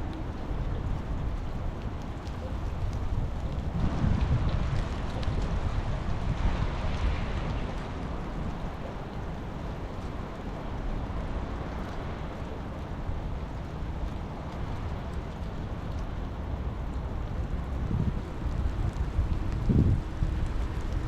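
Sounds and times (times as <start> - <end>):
steady rain falling: 0.0 - 21.0
wind rumble on microphone: 0.0 - 21.0.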